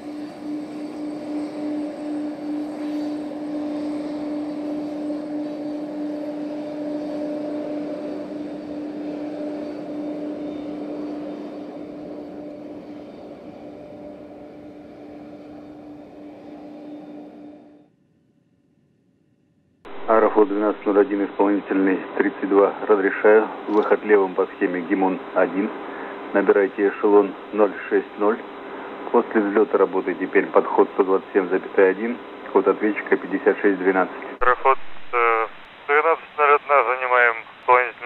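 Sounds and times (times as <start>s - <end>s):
jet engines idling: 0.1s - 17.7s, 19.9s - 38.0s.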